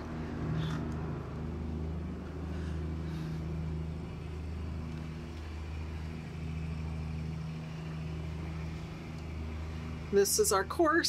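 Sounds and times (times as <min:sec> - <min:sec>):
boat diesel engine droning: 0:00.0 - 0:11.0.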